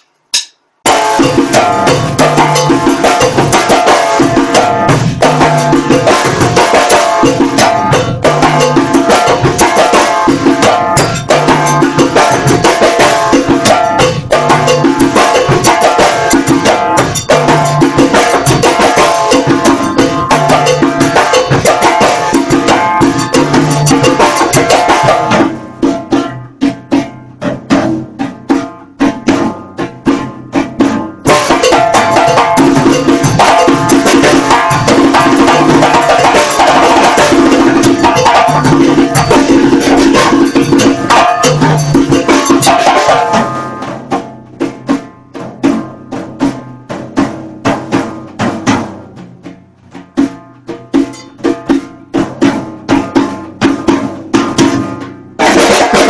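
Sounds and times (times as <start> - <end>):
drum kit: 0.0 - 56.0
djembe played by hand: 0.8 - 56.0.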